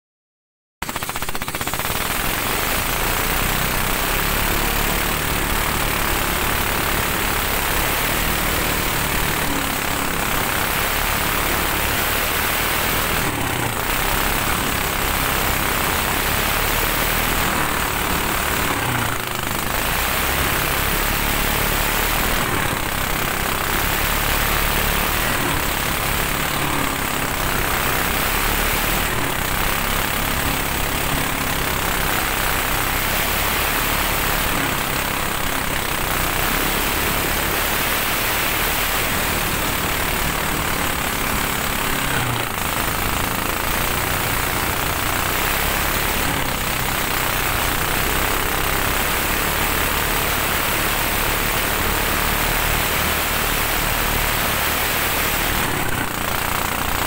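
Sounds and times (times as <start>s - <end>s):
speedboat engine running: 0.8s - 57.0s.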